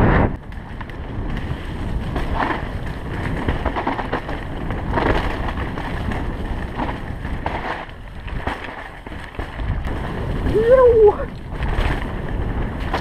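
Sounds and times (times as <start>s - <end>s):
mountain bike rattling: 0.0s - 13.0s
tyres rolling over dirt: 0.0s - 13.0s
wind rumbling on microphone: 0.0s - 13.0s.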